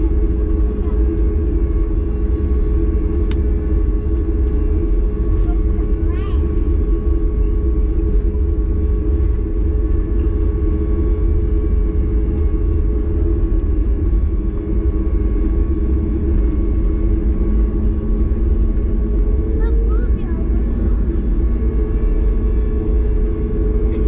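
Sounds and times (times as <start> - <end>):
jet engines heard from cabin: 0.0 - 24.0.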